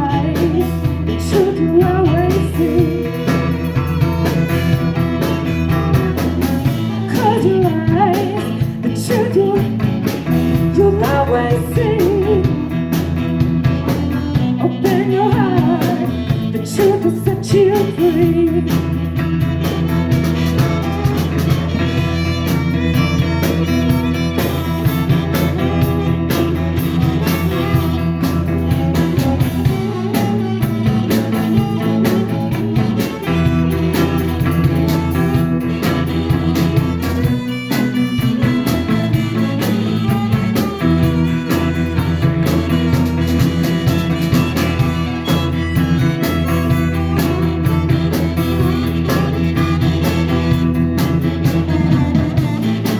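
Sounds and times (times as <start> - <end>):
blues band playing: 0.0 - 52.9
guitar: 0.0 - 52.9
steady bass line: 0.0 - 52.9.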